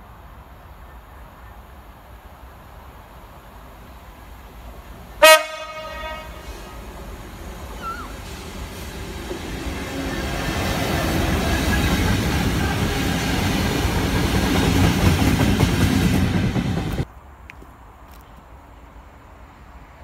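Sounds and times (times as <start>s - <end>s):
diesel locomotive engines: 0.0s - 17.1s
train wheels on rails: 0.0s - 17.1s.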